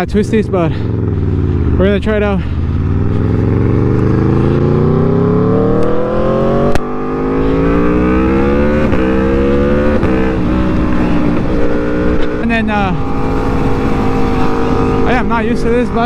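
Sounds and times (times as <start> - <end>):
motorcycle engine accelerating: 0.0 - 16.0
quick gear upshifts: 0.0 - 16.0.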